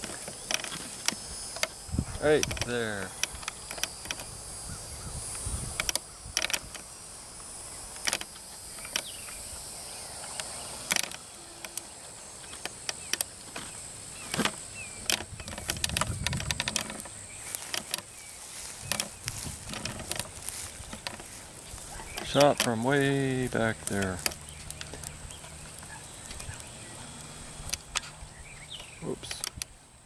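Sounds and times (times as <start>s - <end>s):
sharp clicks and knocks: 0.0s - 1.8s, 2.4s - 4.3s, 5.3s - 9.4s, 10.3s - 28.2s, 28.8s - 29.7s
insects trilling: 0.0s - 30.0s.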